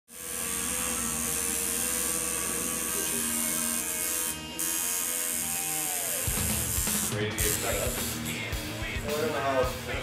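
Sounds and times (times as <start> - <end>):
tattoo machine buzzing: 0.1 - 9.0.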